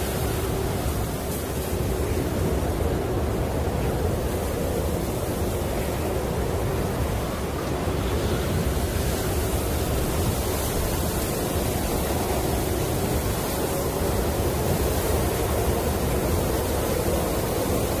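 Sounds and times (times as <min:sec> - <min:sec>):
snowstorm wind blowing: 0:00.0 - 0:18.0.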